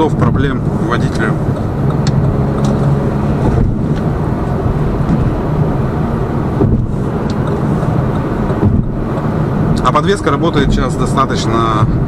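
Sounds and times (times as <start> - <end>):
car engine hum: 0.0 - 12.0
road noise: 0.0 - 12.0.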